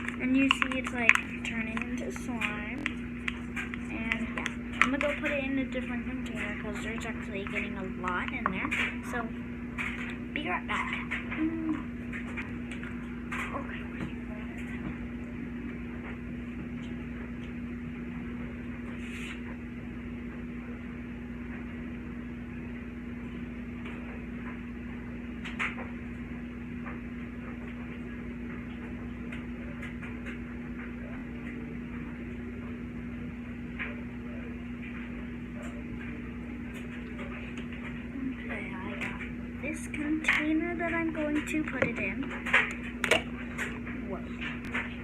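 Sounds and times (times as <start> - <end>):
room noise: 0.0 - 45.0
steady low hum: 0.0 - 45.0.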